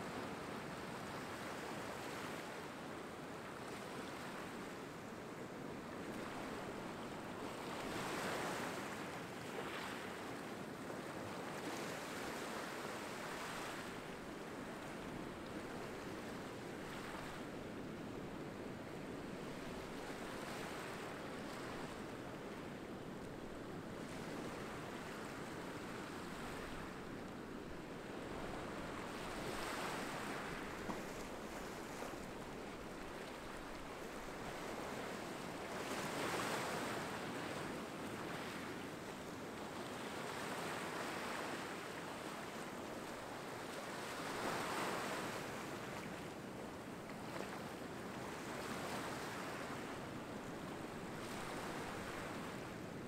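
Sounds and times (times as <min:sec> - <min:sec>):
small waves breaking on beach: 0:00.0 - 0:53.0.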